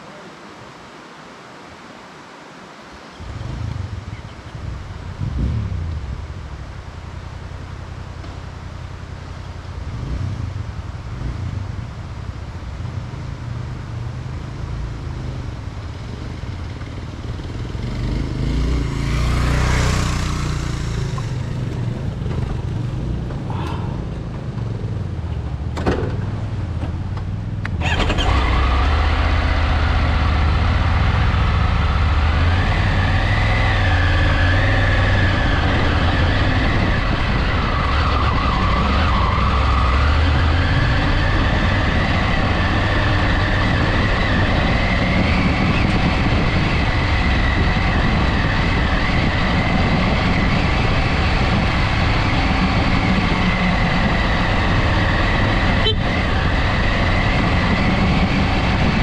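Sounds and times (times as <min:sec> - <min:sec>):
motorcycle engine: 0:03.4 - 0:59.0.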